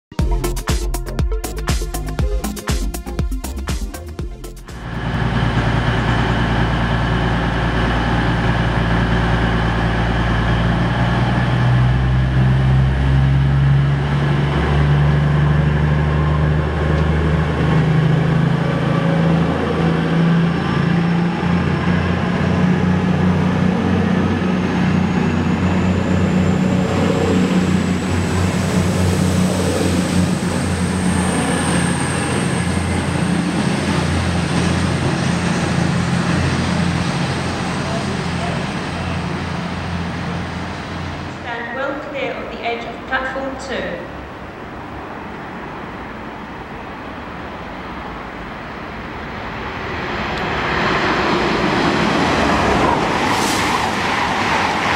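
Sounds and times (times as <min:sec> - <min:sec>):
train diesel engines throttling up: 0:03.5 - 0:54.9
high whine of train: 0:04.6 - 0:54.9.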